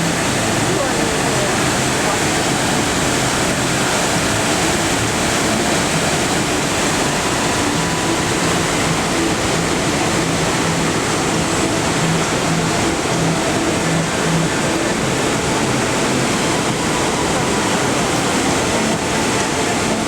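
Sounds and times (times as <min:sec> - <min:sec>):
rapids water rushing: 0:00.0 - 0:20.0.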